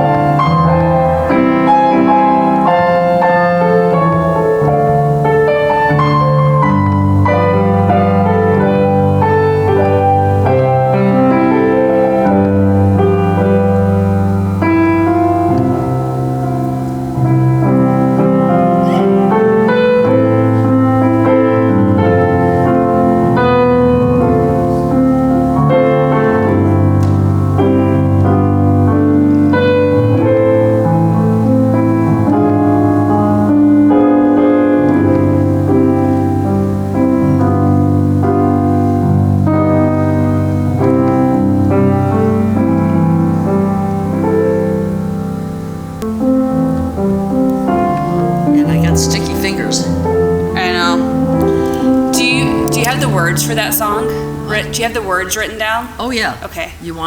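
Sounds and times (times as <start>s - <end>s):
slow solo piano song: 0.0s - 55.9s.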